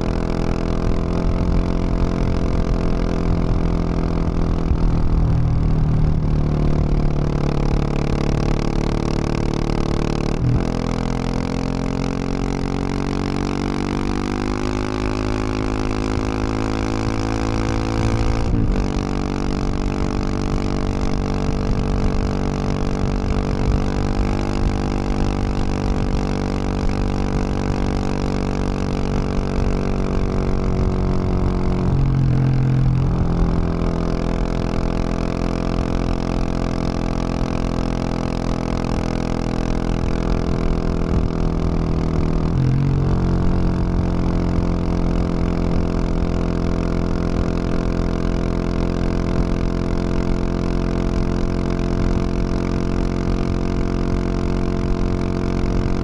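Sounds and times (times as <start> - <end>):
motorcycle engine at road speed: 0.0 - 56.0.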